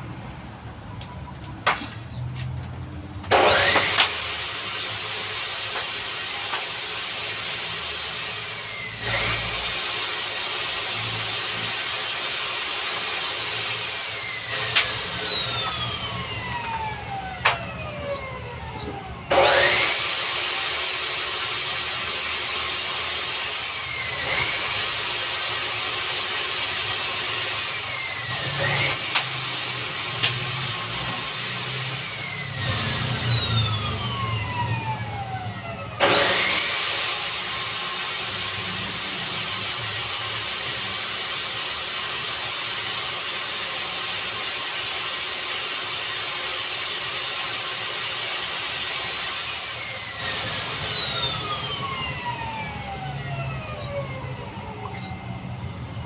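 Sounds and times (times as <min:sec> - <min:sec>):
high-speed power tool whining: 0:02.7 - 0:55.7.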